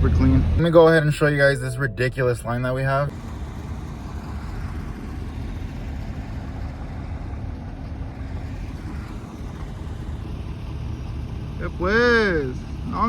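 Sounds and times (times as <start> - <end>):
truck engines idling: 0.0 - 13.0.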